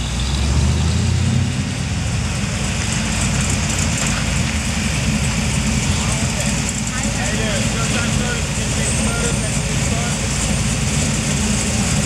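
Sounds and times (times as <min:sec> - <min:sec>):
old car engines rumbling: 0:00.0 - 0:12.0.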